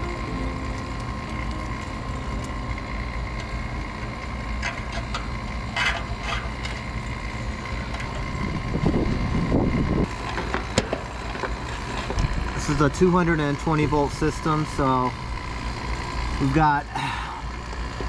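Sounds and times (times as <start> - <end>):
vacuum pump running: 0.0 - 18.0.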